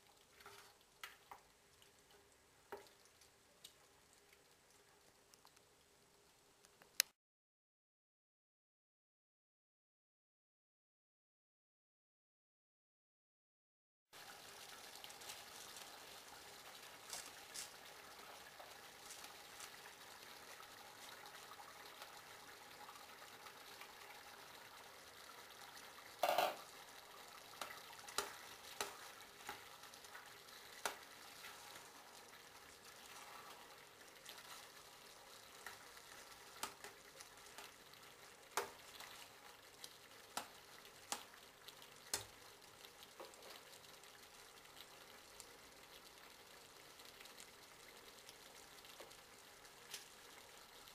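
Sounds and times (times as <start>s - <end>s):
food sizzling in a saucepan: 0.0s - 6.7s, 14.2s - 50.9s.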